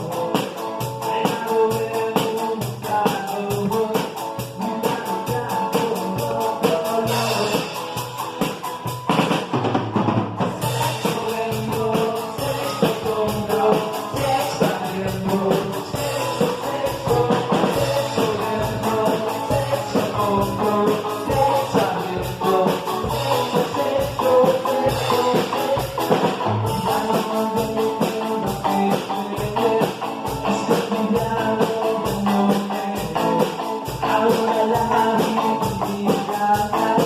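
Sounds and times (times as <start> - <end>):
person singing: 0.0 - 8.0, 10.6 - 37.0
drum cymbal beat: 0.0 - 9.7, 10.4 - 37.0
electric guitar: 0.0 - 37.0
rock band playing: 0.0 - 37.0.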